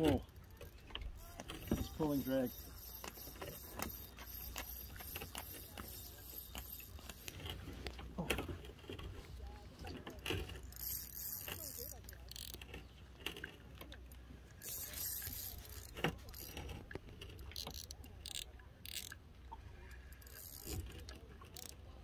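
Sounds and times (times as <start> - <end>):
fishing reel clicks and rustles: 0.0 - 22.0.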